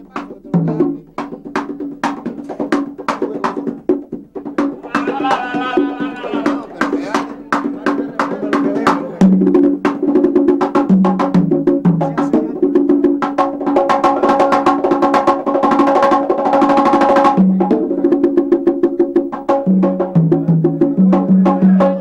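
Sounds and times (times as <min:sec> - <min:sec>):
conga drums played by hand: 0:00.0 - 0:22.0.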